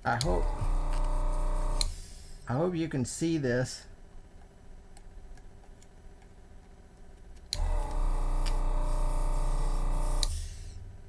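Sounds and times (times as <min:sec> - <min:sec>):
desoldering vacuum pump running: 0:00.0 - 0:03.4, 0:05.4 - 0:11.0.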